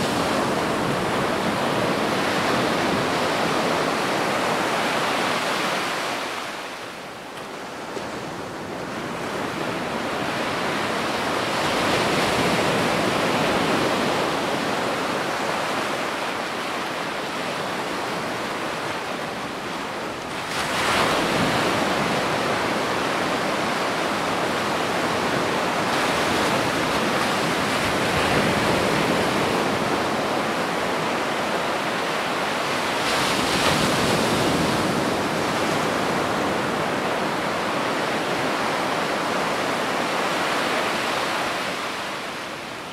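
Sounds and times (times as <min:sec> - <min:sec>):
ocean waves on a rocky beach: 0:00.0 - 0:42.9.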